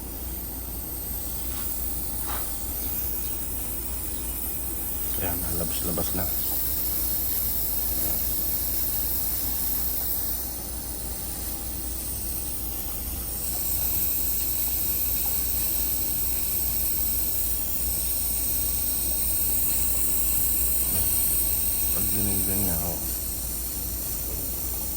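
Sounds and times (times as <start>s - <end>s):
gas hissing from valve: 0.0s - 24.9s.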